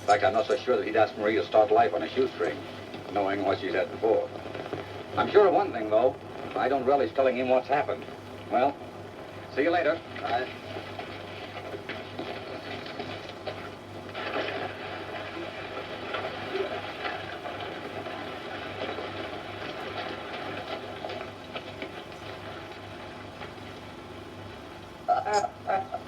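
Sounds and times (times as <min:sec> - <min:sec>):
film projector clattering: 0:00.0 - 0:08.7, 0:09.6 - 0:25.0
low hum and hiss: 0:00.0 - 0:26.0.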